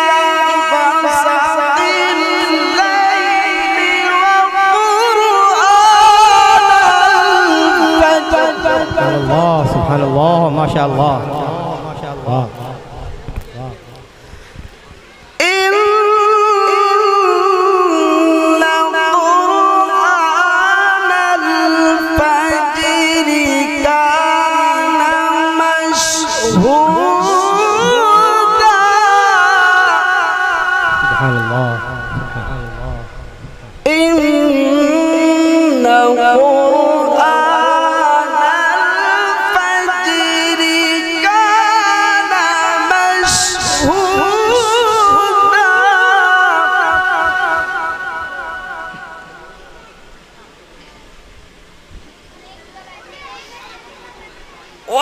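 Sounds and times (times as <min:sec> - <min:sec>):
man reciting melodically: 0:00.0 - 0:14.2, 0:15.4 - 0:50.0.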